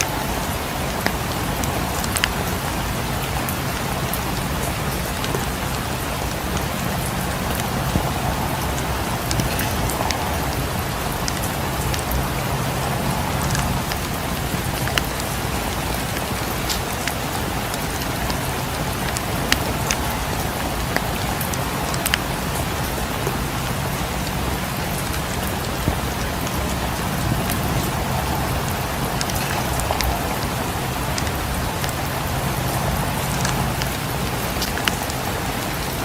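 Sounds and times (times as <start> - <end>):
steady rain: 0.0 - 36.0
wood fire crackling: 0.0 - 36.0.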